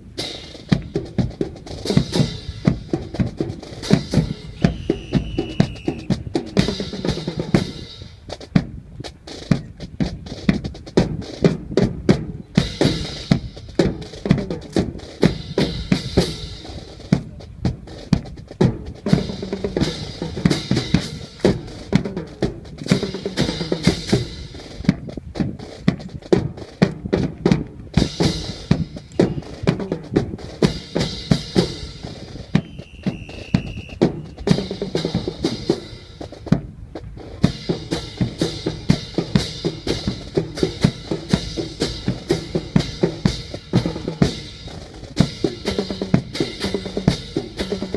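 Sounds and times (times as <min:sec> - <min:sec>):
snare and bass drum cadence: 0:00.0 - 0:47.9.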